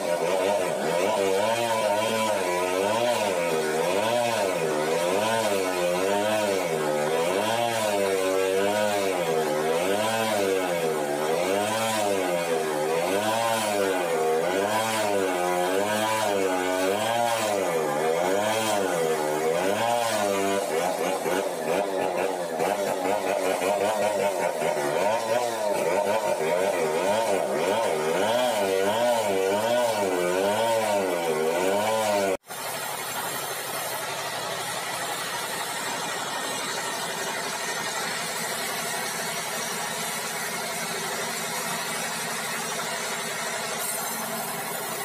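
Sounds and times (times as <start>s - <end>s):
sawmill engine running: 0.0s - 45.0s.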